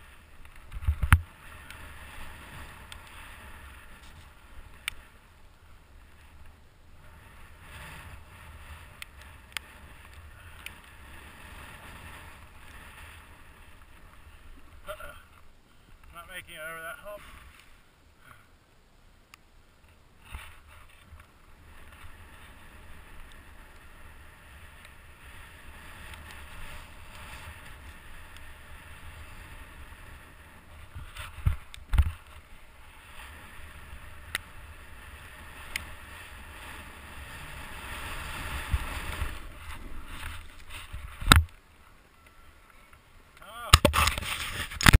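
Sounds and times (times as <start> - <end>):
snowboard scraping snow: 0.0 - 15.3, 16.2 - 17.9, 20.2 - 42.9, 43.5 - 44.9.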